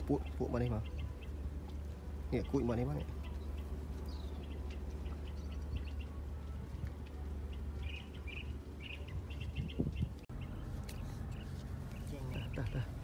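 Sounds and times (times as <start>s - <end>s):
low hum: 0.0s - 13.0s
small birds chirping: 0.0s - 13.0s.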